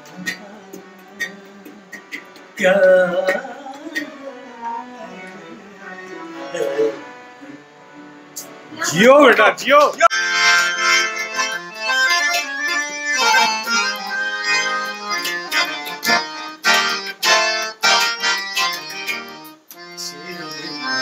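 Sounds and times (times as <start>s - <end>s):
harmonium melody: 0.0s - 21.0s.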